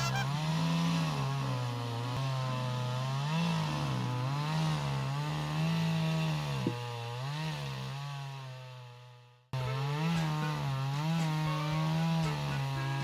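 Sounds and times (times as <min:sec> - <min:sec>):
chainsaw cutting log: 0:00.0 - 0:13.0.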